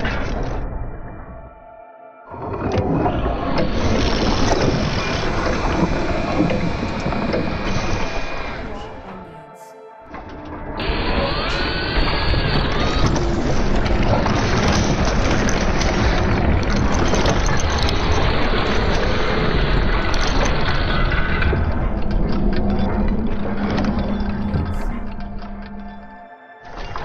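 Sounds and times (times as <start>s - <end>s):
large machine rumbling: 0.0s - 8.8s, 10.0s - 27.0s
low hum: 0.0s - 27.0s.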